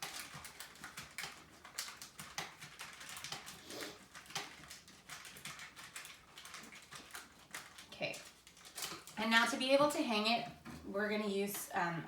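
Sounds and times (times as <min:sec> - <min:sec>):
crackling and rustling of packing: 0:00.0 - 0:10.9.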